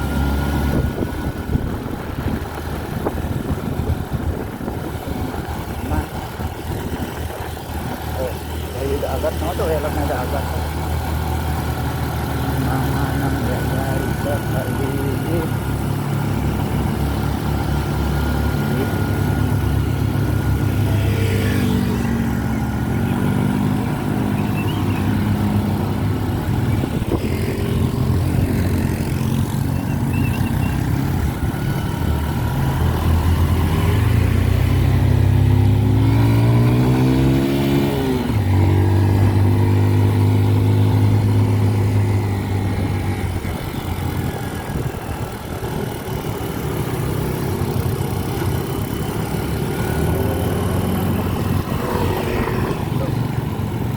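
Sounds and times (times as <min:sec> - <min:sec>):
vehicle engine running: 0:00.0 - 0:53.9.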